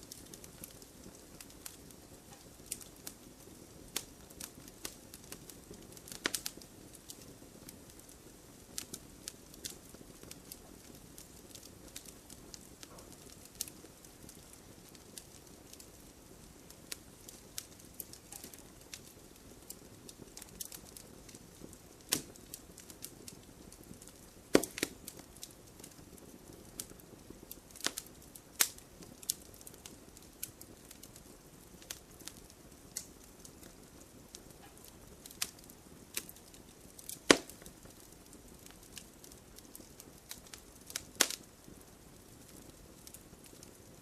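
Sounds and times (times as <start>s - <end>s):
campfire popping and snapping: 0.0s - 44.0s
low fire hiss: 0.0s - 44.0s.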